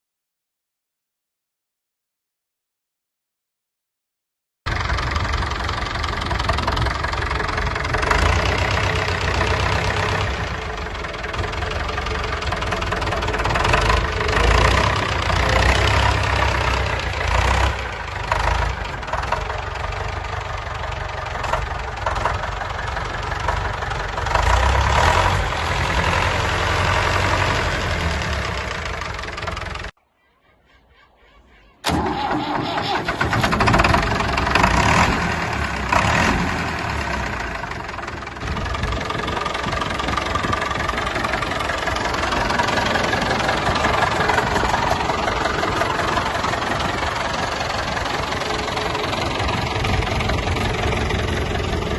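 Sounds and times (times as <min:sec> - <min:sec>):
tractor diesel engine running: 0:04.7 - 0:30.0, 0:31.2 - 0:51.9.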